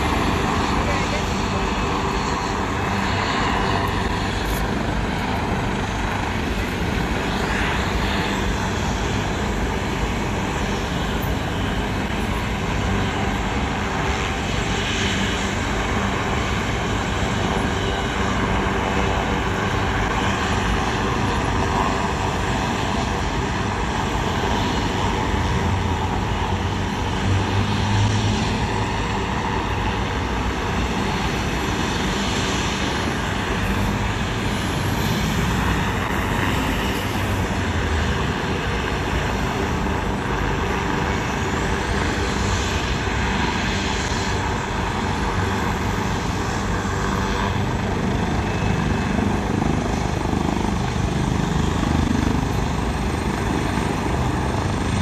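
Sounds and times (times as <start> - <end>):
highway traffic rumble: 0.0 - 55.0.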